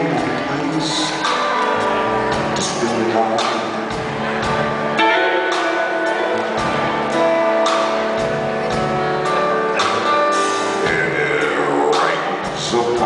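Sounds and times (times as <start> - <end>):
electric guitar playing: 0.0 - 12.6
keyboard playing: 0.0 - 13.0.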